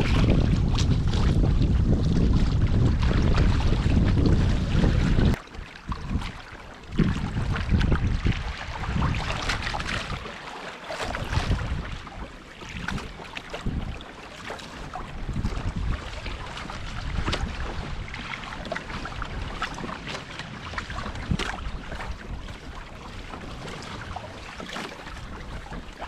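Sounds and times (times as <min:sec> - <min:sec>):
water lapping against hull: 0:00.0 - 0:26.0
wind buffeting microphone: 0:00.0 - 0:26.0.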